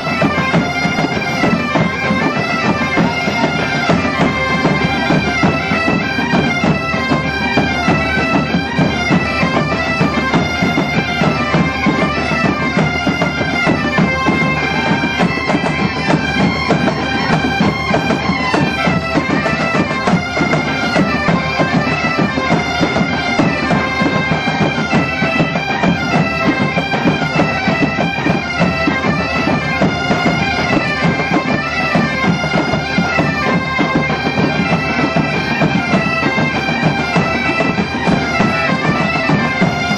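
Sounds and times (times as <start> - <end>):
bagpipes playing folk tune: 0.0 - 39.9
snare drum beating: 0.0 - 39.9.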